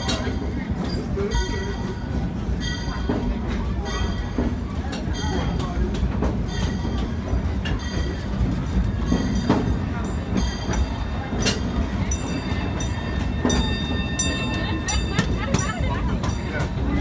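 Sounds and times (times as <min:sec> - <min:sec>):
rail clicks: 0:00.0 - 0:17.0
train wheels rumbling on rail: 0:00.0 - 0:17.0.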